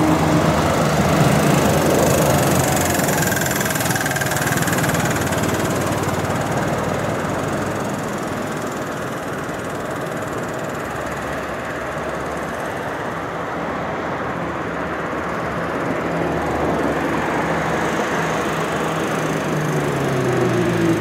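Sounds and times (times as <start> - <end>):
motorcycle engine running: 0.0 - 13.7, 15.2 - 21.0.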